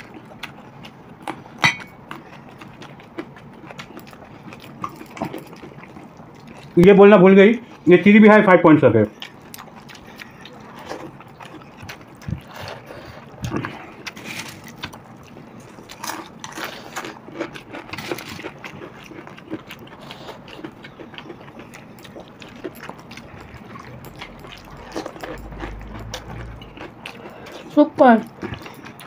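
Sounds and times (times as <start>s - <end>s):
chewing: 0.0s - 7.0s, 9.1s - 29.0s.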